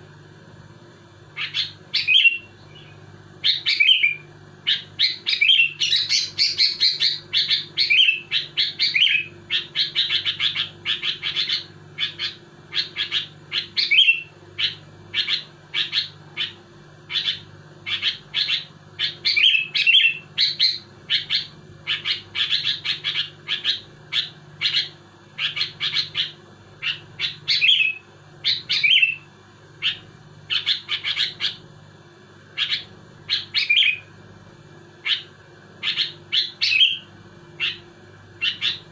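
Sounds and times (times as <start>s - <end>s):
bird chirping: 1.4s - 31.6s, 32.6s - 34.1s, 35.0s - 37.8s, 38.4s - 38.9s.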